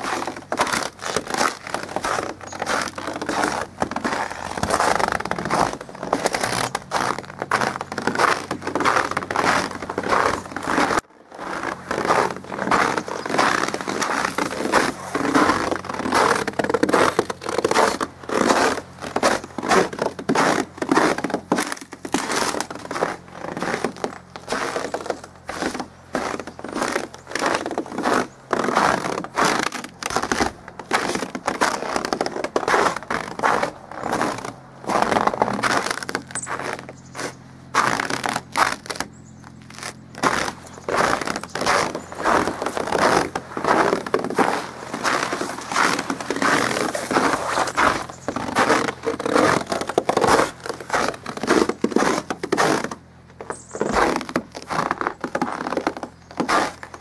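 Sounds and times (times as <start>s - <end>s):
footsteps crunching through snow: 0.0s - 57.0s.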